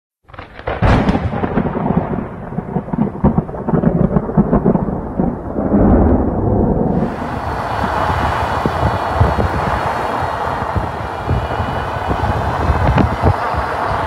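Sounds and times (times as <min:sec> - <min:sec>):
thunder crack and rumble: 0:00.3 - 0:14.0.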